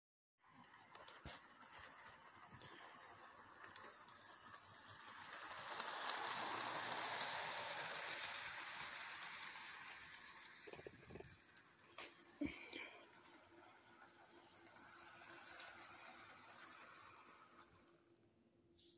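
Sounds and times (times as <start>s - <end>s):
model train wheels rattling: 0.4s - 18.4s.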